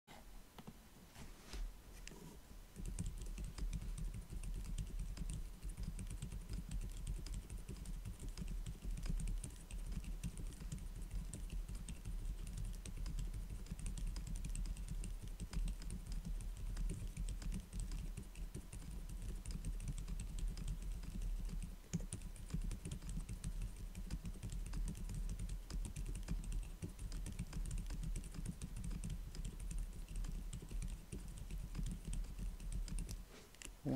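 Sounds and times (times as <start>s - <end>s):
mechanical keyboard typing: 2.8s - 33.7s.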